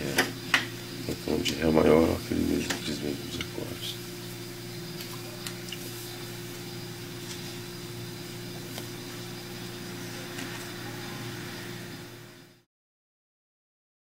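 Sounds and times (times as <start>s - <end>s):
low hum with hiss: 0.0s - 12.7s.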